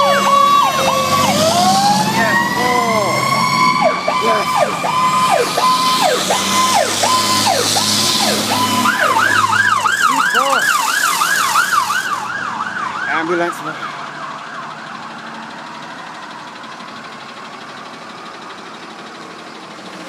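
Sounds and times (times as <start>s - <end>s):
fire engine siren wailing: 0.0s - 20.0s.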